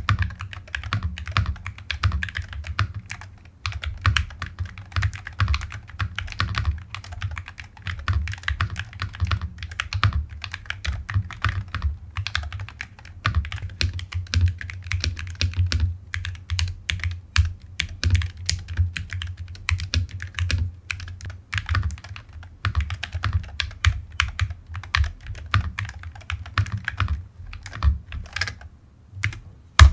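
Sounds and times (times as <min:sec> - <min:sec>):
fast keyboard typing: 0:00.0 - 0:29.9.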